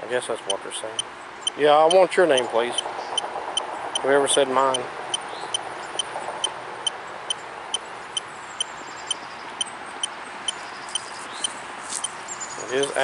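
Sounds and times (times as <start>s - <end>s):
electronic detector ticking: 0.4s - 4.1s, 4.7s - 12.2s.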